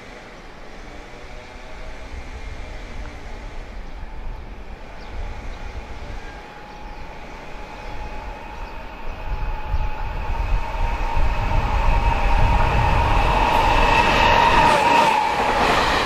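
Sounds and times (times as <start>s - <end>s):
train rumble: 0.0s - 16.0s
train whine: 0.0s - 16.0s.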